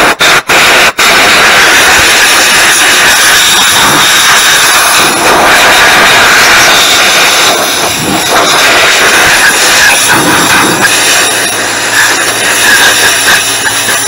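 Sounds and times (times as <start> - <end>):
compressed air blow gun hissing: 0.0 - 14.0.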